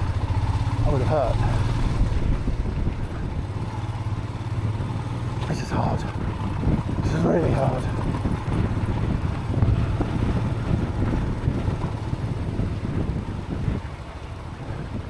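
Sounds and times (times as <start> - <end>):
motorcycle engine: 0.0 - 15.0
wind buffeting microphone: 0.0 - 15.0.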